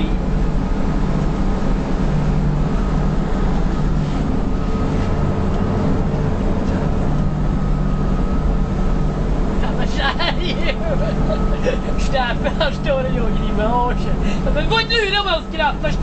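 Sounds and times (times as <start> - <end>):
bus engine and road noise: 0.0 - 16.0
faint high whine: 0.0 - 16.0.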